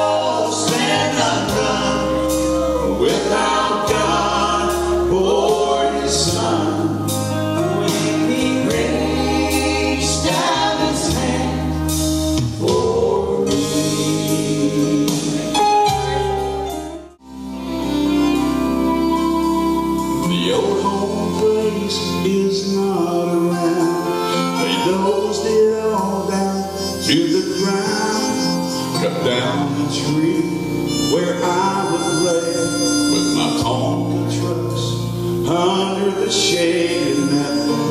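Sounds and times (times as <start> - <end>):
gospel trio singing in harmony: 0.0 - 16.2, 19.2 - 37.9
instrumental accompaniment: 0.0 - 37.9.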